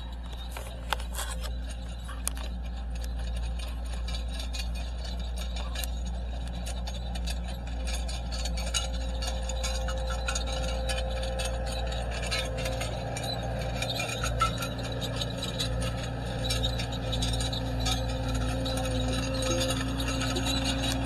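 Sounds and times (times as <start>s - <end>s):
diesel engine running: 0.0s - 21.0s
metallic clinks and rattles: 0.0s - 21.0s.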